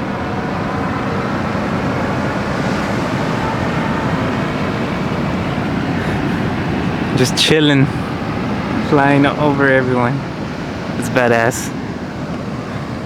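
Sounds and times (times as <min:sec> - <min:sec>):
rushing wind: 0:00.0 - 0:13.0.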